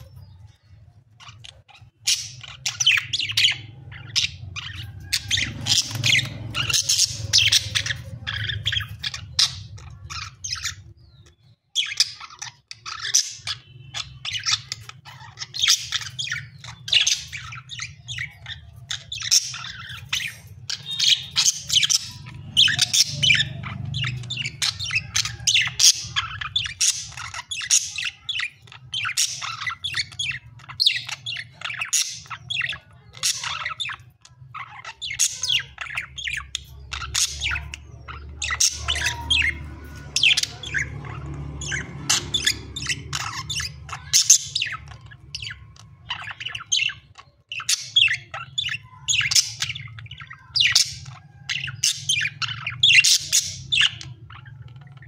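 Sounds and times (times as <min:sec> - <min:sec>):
budgerigars chirping and chattering: 0:00.0 - 0:55.0.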